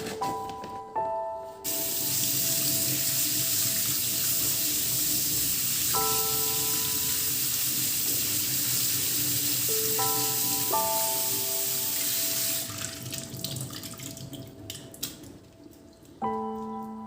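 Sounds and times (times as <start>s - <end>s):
soft background music: 0.0s - 17.0s
tap water running into sink: 1.7s - 16.2s.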